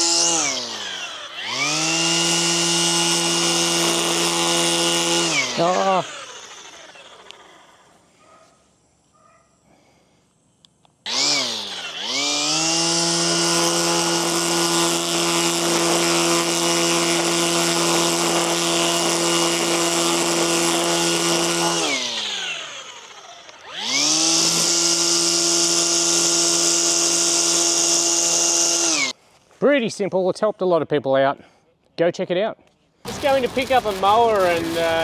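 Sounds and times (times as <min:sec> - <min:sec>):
electric trimmer motor whining: 0:00.0 - 0:08.1, 0:11.0 - 0:29.2, 0:33.1 - 0:35.0.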